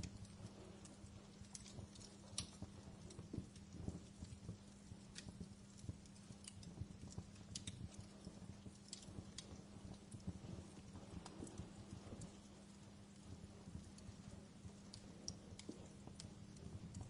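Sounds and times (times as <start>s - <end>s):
faint steady hum: 0.0s - 17.0s
wood fire crackling and popping: 0.0s - 17.0s.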